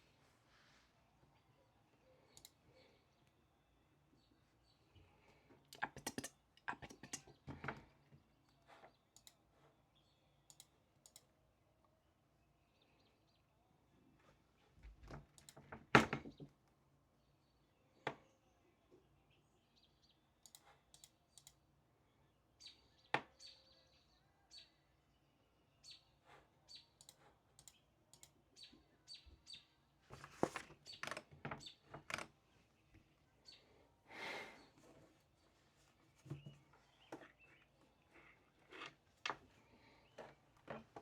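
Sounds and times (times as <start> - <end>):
small birds chirping: 1.2 - 11.4, 12.0 - 14.7, 16.2 - 41.0.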